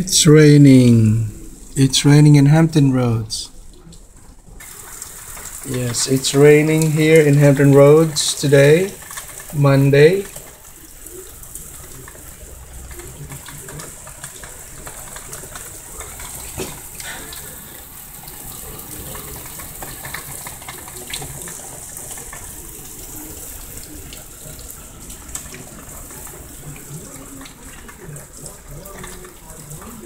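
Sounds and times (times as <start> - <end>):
heavy rain on wooden deck: 0.0 - 2.0, 2.9 - 30.0.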